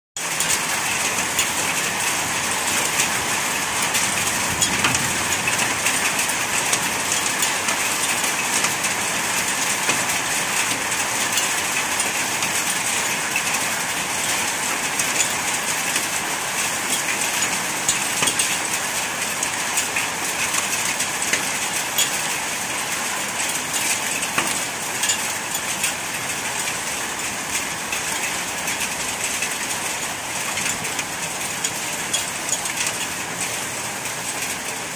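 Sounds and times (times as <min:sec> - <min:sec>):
hailstones pattering: 0:00.2 - 0:34.9
heavy rain hissing: 0:01.9 - 0:34.1.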